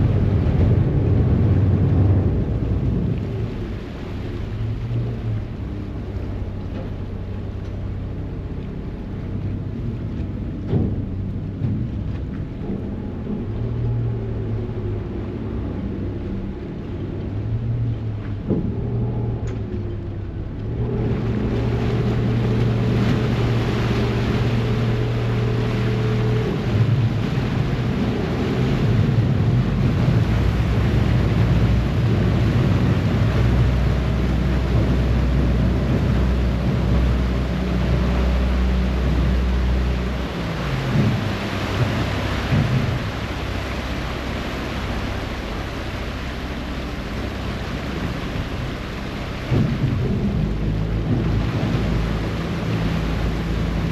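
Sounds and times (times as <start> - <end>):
ferry engines running: 0.0 - 53.9
propeller wash churning: 0.0 - 53.9
wind buffeting microphone: 0.0 - 53.9.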